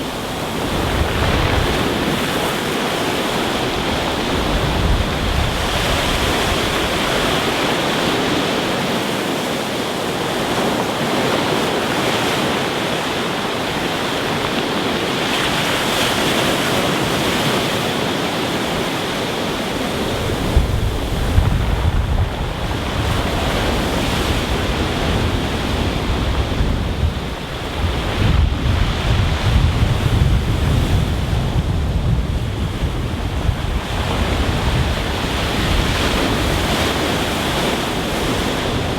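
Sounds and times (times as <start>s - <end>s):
surf breaking on stony beach: 0.0s - 38.9s
wind buffeting microphone: 0.0s - 38.9s.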